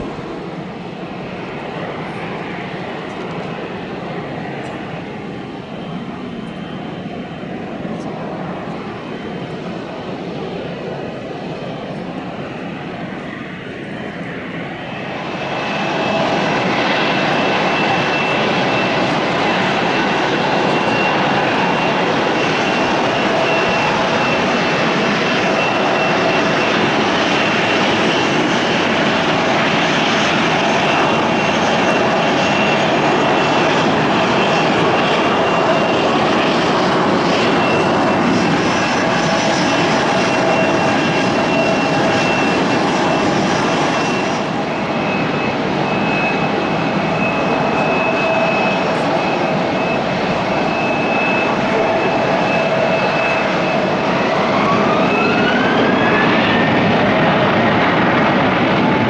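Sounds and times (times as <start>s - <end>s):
turboprop airliner engines whining: 0.0s - 59.0s.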